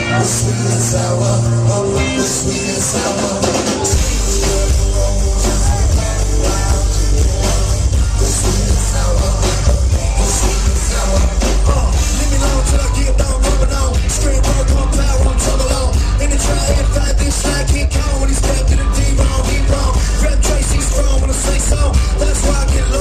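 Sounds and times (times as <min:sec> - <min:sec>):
drums: 0:00.0 - 0:23.0
electric guitar: 0:00.0 - 0:23.0
heavy bass and kick drum: 0:00.0 - 0:23.0
vocals: 0:00.0 - 0:23.0.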